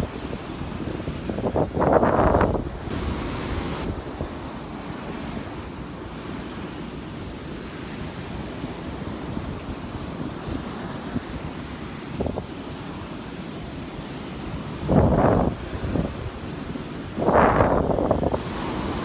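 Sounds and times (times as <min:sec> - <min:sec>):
waves breaking on beach: 0:00.0 - 0:19.0
wind rumbling on microphone: 0:00.0 - 0:19.0.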